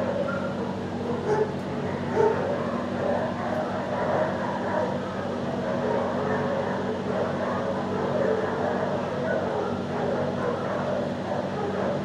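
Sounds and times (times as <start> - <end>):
dogs barking and yipping: 0.0 - 12.0
steady low hum: 0.0 - 12.0.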